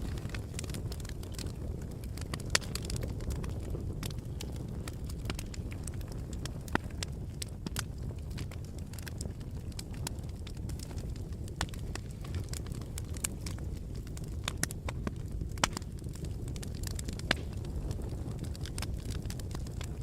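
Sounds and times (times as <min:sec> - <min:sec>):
fire crackling in fireplace: 0:00.0 - 0:20.0
sharp pops of fire: 0:00.0 - 0:20.0.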